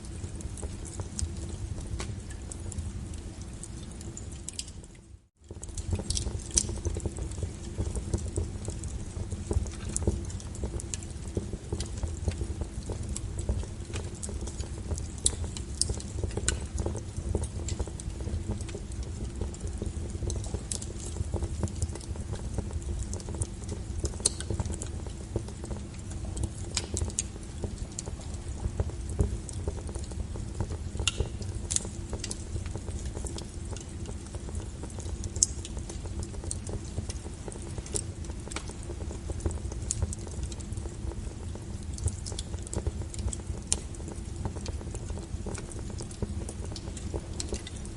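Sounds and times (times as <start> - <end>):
burning logs crackling and popping: 0.0 - 47.9
low rumble of wood fire: 0.0 - 47.9.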